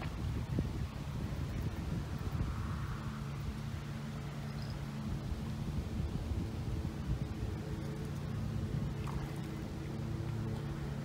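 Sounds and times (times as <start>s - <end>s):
engine running steadily: 0.0s - 11.0s
wind rumble on microphone: 0.0s - 11.0s.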